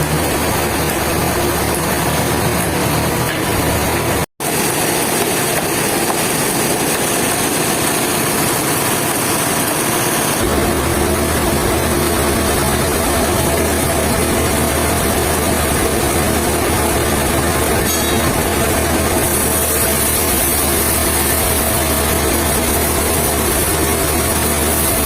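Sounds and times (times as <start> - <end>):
loud engine running: 0.0 - 25.0.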